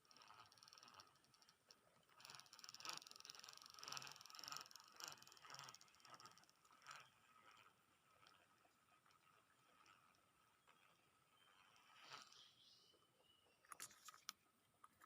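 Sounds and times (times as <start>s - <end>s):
fishing reel ratcheting whir: 0.0s - 12.7s.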